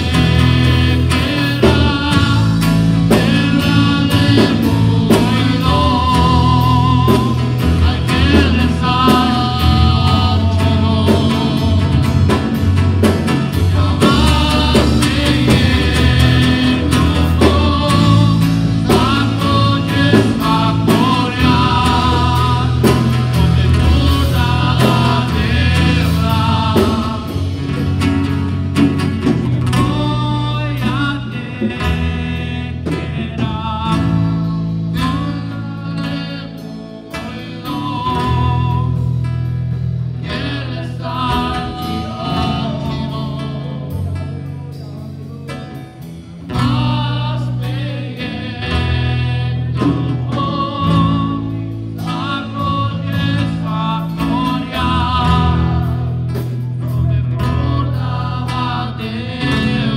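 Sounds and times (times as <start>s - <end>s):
guitar: 0.0s - 59.9s
keyboard: 0.0s - 59.9s
man singing with vibrato: 0.0s - 59.9s.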